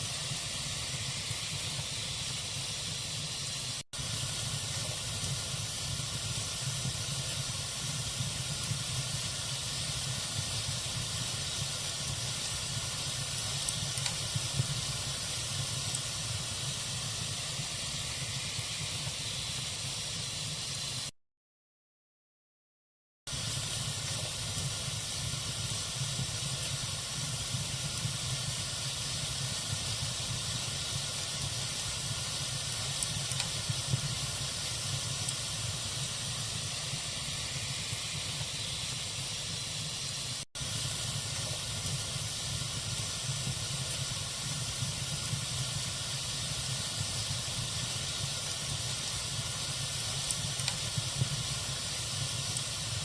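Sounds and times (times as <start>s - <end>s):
wood fire hissing and crackling: 0.0s - 21.1s, 23.3s - 53.0s.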